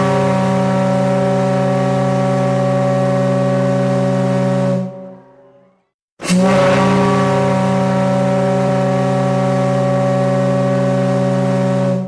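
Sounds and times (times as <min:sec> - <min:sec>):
deep ship whistle blast: 0:00.0 - 0:12.0.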